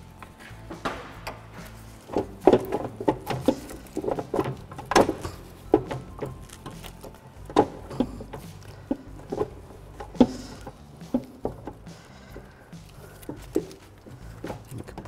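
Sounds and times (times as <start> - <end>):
rubber duct knocking and clicking: 0.7 - 15.0.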